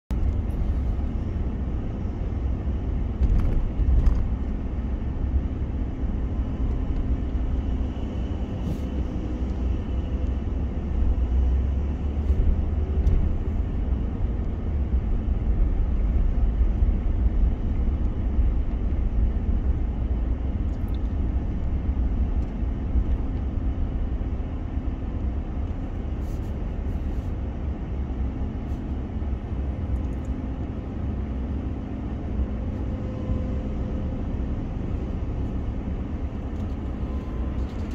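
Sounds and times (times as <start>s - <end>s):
car cabin low rumble: 0.1s - 37.9s
faint engine hum: 0.1s - 37.9s.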